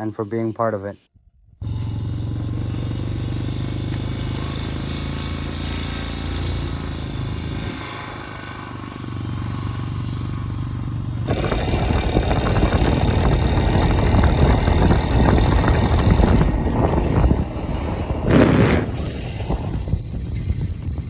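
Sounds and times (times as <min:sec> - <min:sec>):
engine running: 0:01.6 - 0:21.0.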